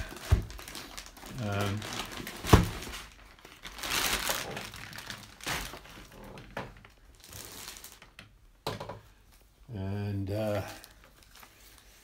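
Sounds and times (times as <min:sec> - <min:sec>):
plastic bag crinkling: 0:00.0 - 0:08.2, 0:10.5 - 0:12.0.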